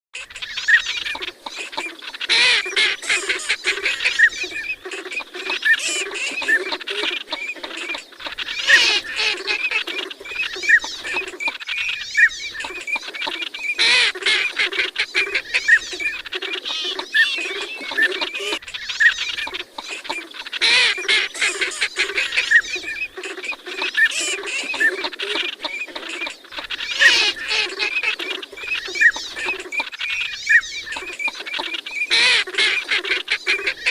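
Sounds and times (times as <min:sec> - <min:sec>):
ducks quacking and grunting: 0:00.2 - 0:33.9
ducks whistling: 0:00.2 - 0:33.9.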